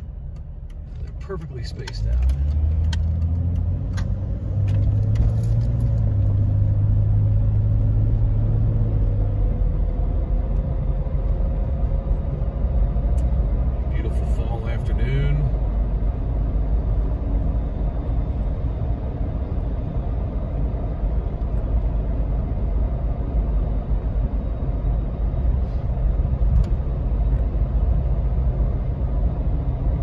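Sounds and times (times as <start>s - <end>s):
car engine running: 0.0s - 30.0s
road and tyre noise: 0.0s - 30.0s.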